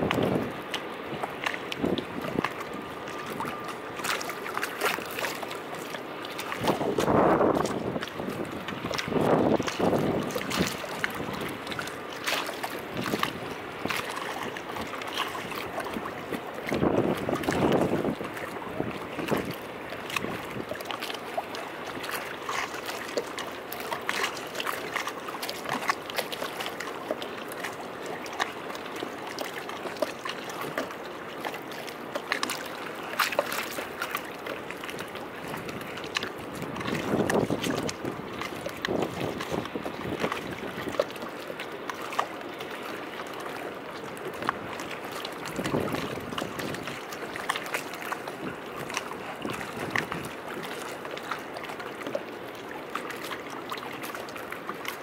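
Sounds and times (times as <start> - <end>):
waves lapping against concrete steps: 0.0 - 55.0.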